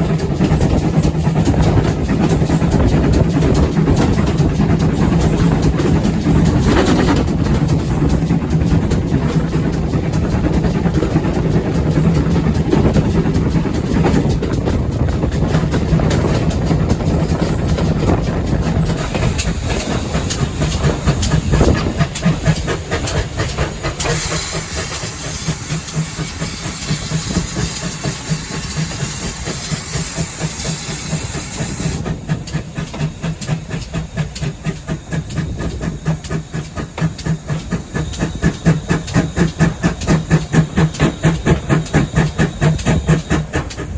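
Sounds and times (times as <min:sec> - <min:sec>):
hissing steam: 0:00.0 - 0:43.9
steam locomotive chugging: 0:00.0 - 0:43.9.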